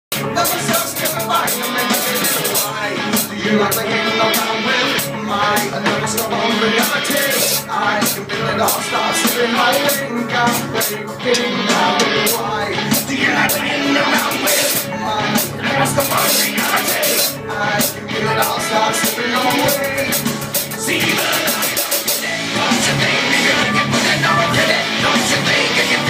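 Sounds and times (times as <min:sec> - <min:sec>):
man singing into microphone: 0:00.1 - 0:26.0
rock music with drum beat: 0:00.1 - 0:26.0.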